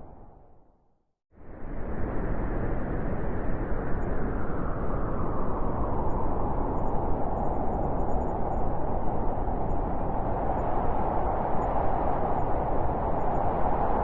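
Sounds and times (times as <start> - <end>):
wind rushing and howling: 1.4 - 14.0.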